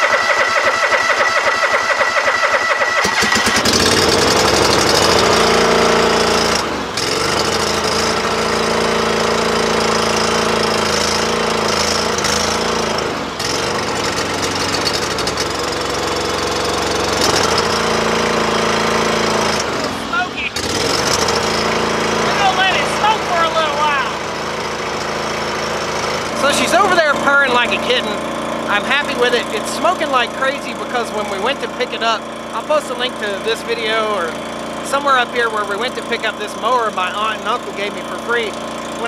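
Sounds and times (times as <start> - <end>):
lawn mower engine starting and running: 0.0 - 39.0.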